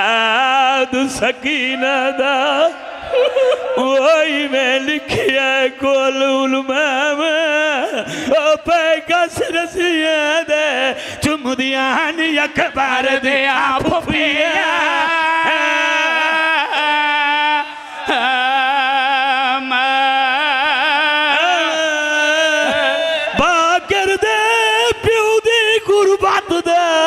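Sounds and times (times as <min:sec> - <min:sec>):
man singing a lament: 0:00.0 - 0:27.0.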